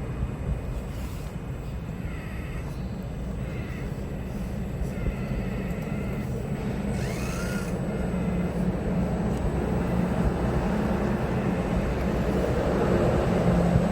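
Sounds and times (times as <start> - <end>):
model excavator motor hum: 0.6 - 13.9.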